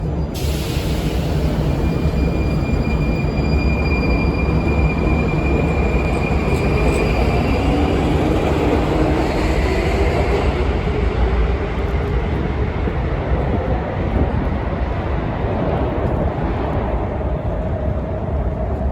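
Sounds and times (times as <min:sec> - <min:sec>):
metro train rumble: 0:00.0 - 0:18.9.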